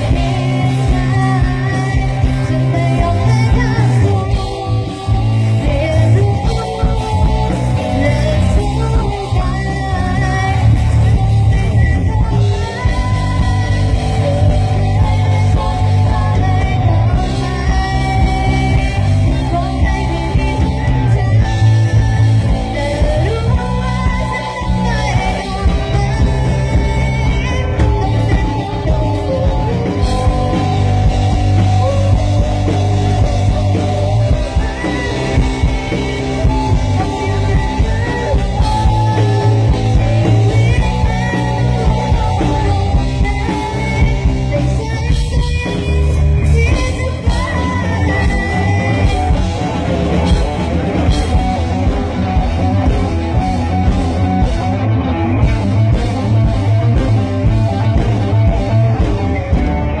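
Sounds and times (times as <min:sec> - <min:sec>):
bass guitar: 0:00.0 - 1:00.0
drum kit: 0:00.0 - 1:00.0
electric guitar: 0:00.0 - 1:00.0
person singing: 0:00.0 - 1:00.0.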